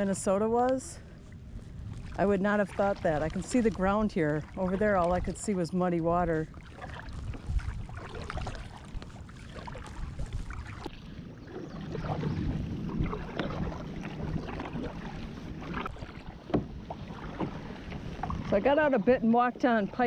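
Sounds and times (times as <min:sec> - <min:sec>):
kayak paddle stroking water: 0:00.0 - 0:20.0
water splashing and dripping: 0:01.9 - 0:20.0.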